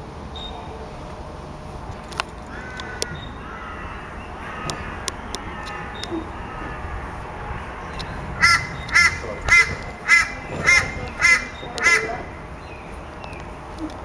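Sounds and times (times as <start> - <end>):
low background noise: 0.0 - 14.0
bird calling: 2.5 - 14.0.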